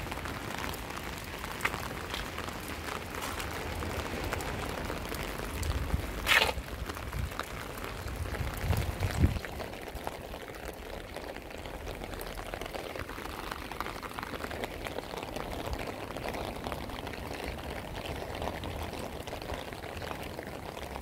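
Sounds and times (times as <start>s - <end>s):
rain pattering on pavement: 0.0s - 21.0s.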